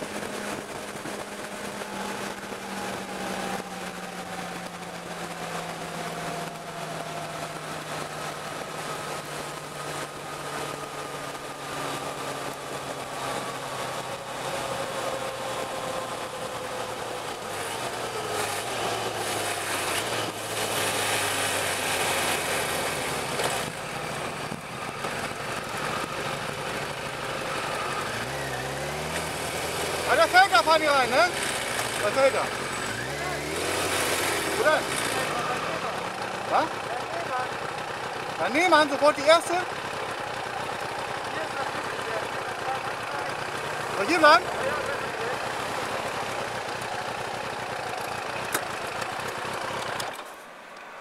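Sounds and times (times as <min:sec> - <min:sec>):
motorcycle engine running: 0:00.0 - 0:50.5.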